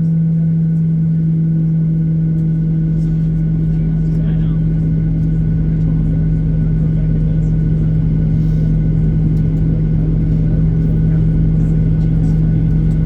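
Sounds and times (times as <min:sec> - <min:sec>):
jet engine drone in cabin: 0:00.0 - 0:13.0.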